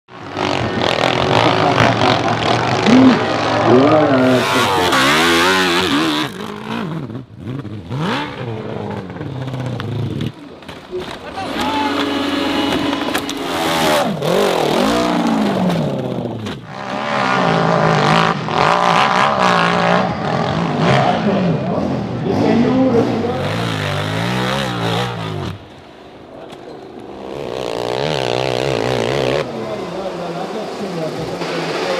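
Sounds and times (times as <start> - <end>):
dirt bike engines revving: 0.1 - 31.9.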